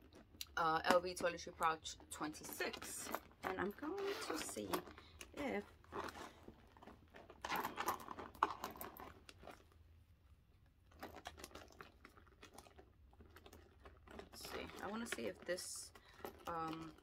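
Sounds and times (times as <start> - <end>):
packaging rustling and crinkling: 2.3 - 9.8, 10.9 - 17.0.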